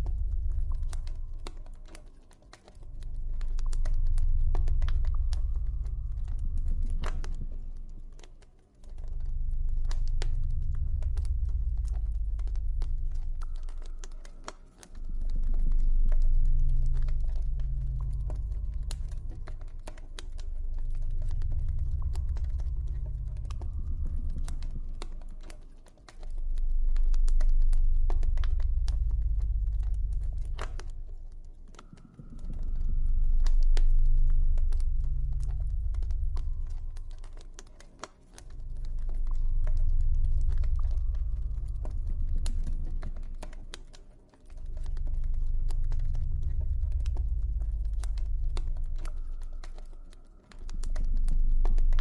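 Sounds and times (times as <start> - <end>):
deep low drone: 0.0 - 52.0.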